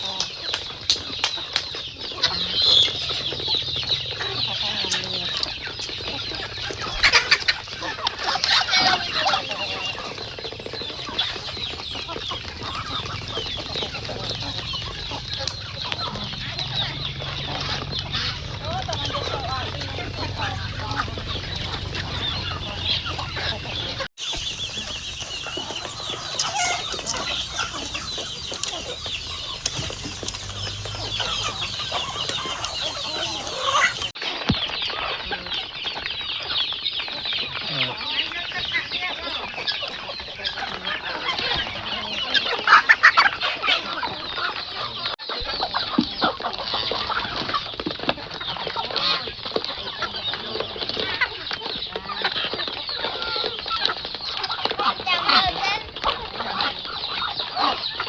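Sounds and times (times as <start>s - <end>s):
chickens clucking: 0.0s - 58.0s
loud chicken call: 10.9s - 58.0s.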